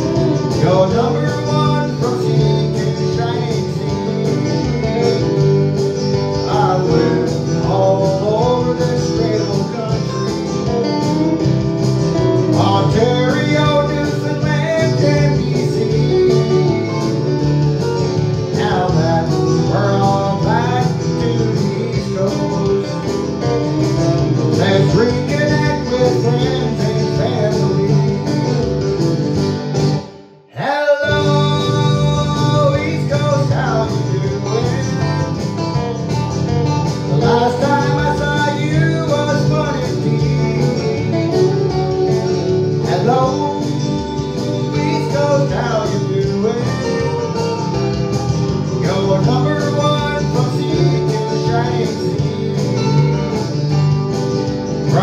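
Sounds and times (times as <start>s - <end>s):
man singing into a microphone: 0.0s - 11.6s, 12.5s - 29.0s, 30.5s - 35.8s, 37.0s - 54.0s, 54.8s - 55.0s
country music accompaniment with guitar: 0.0s - 55.0s.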